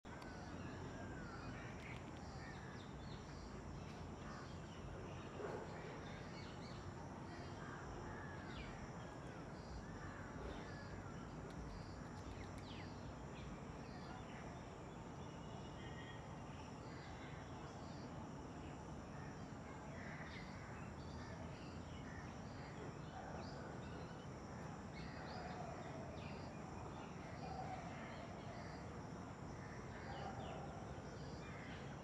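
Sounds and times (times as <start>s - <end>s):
birds chirping: 0.1s - 32.0s.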